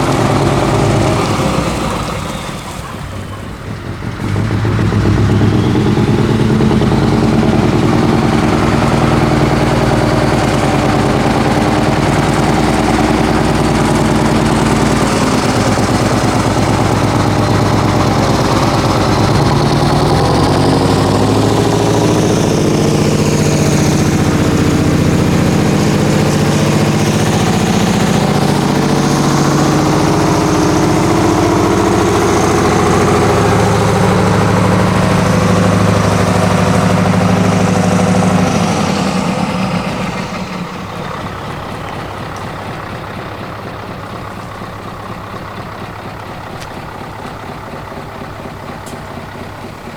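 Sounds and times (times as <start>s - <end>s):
diesel truck engine idling: 0.0s - 49.9s.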